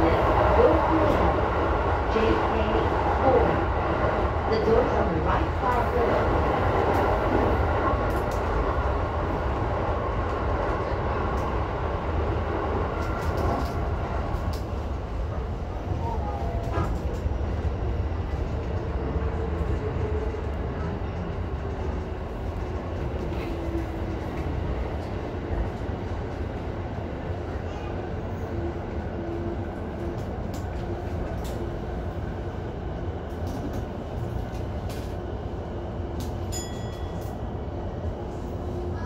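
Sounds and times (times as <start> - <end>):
wheels rumbling on rail: 0.0 - 39.0.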